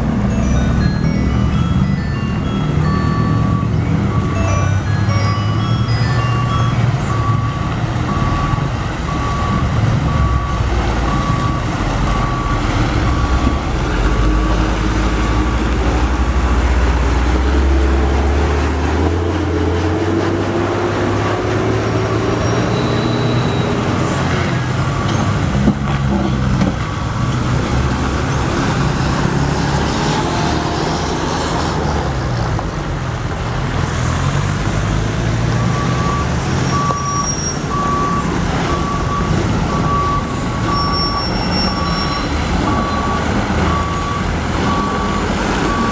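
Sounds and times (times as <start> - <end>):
truck diesel engine labouring: 0.0 - 45.9
reversing beeper: 0.3 - 19.6, 20.4 - 26.2, 26.8 - 31.7, 35.5 - 45.9.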